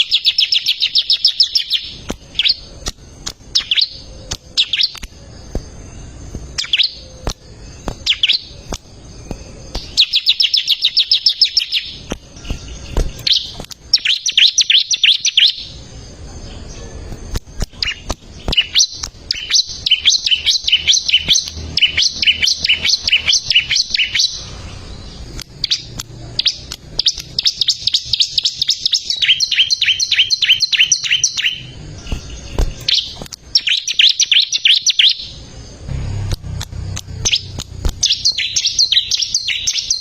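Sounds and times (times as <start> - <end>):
bird singing rapid high chirps: 0.0 - 40.0.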